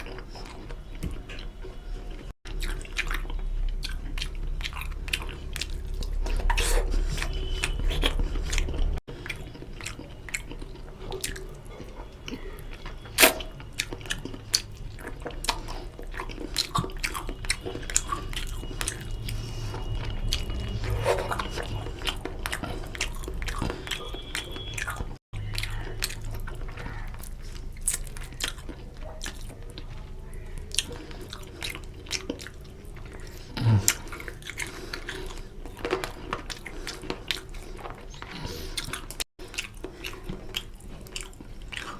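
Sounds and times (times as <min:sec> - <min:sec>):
close chewing with mouth clicks: 0:00.0 - 0:41.9.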